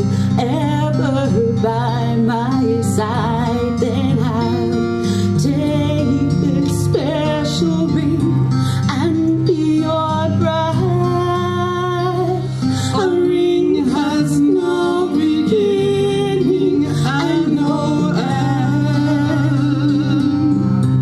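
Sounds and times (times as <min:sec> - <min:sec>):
woman and man singing a duet: 0:00.0 - 0:20.8
acoustic guitar: 0:00.0 - 0:21.0.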